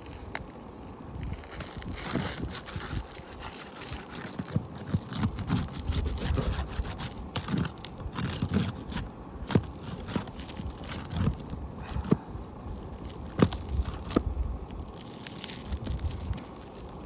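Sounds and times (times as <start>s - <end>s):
roof shingles scraping and crunching: 0.0s - 17.0s.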